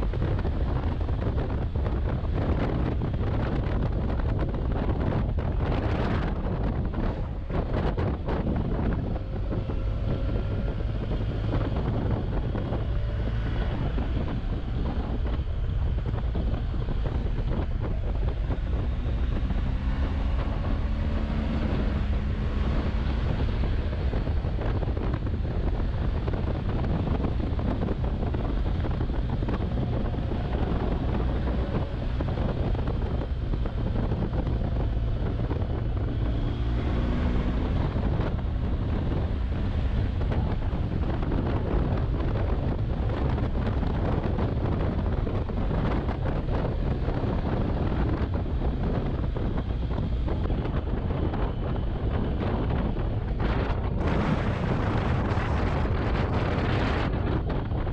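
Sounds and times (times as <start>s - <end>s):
motorcycle engine: 0.0s - 57.9s
wind rushing over microphone: 0.0s - 57.9s.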